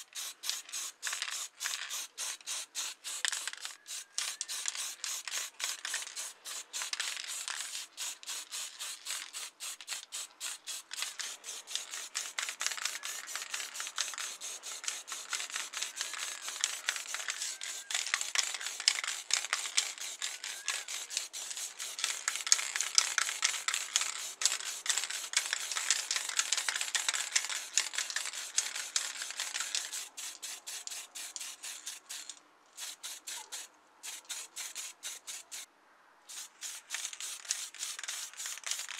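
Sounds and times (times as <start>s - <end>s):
spray paint can hissing in bursts: 0.0s - 35.7s, 36.3s - 38.9s.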